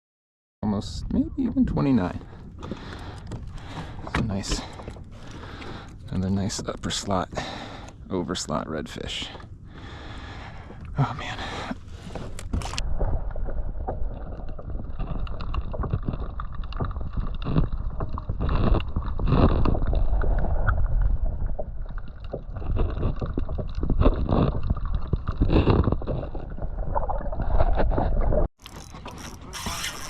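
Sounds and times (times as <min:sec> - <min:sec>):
water sloshing around kayak: 0:01.8 - 0:08.6, 0:09.3 - 0:30.0.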